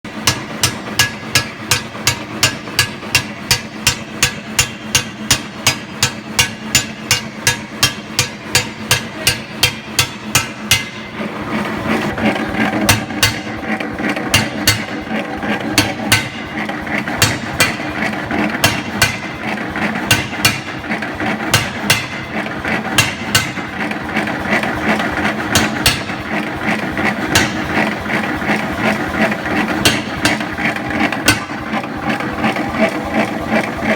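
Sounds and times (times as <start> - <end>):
forging hammer blows on metal: 0.1 - 11.2, 12.0 - 32.9
workshop clatter: 0.1 - 33.9.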